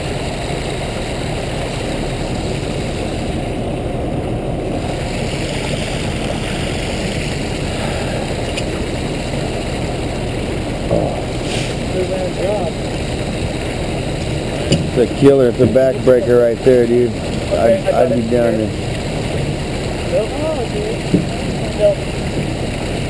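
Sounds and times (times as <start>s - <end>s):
truck engine rumble: 0.0s - 23.0s
water churning in tank: 0.0s - 23.0s.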